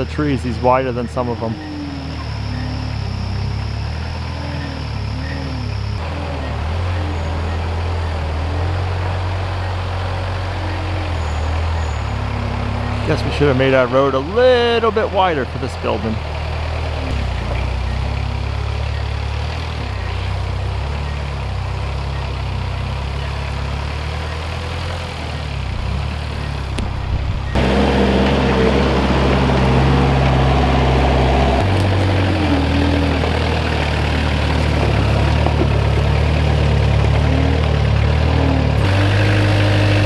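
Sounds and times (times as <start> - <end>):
forklift engine running: 0.0 - 40.0.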